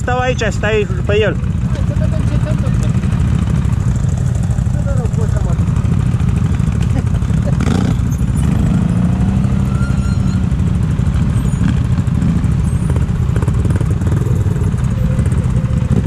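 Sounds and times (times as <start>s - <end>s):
atv engines idling: 0.0s - 16.0s.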